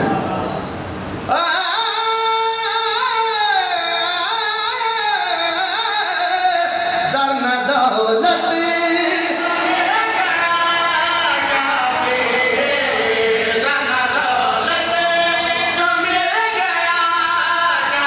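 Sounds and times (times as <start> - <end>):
man singing into a microphone: 1.3 - 18.0.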